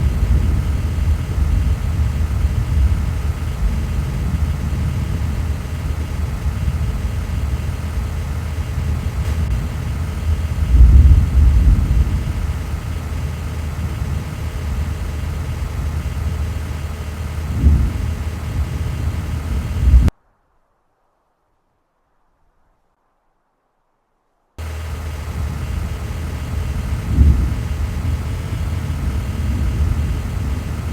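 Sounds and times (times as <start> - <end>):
low rumbling noise: 0.0 - 20.1, 24.6 - 30.9.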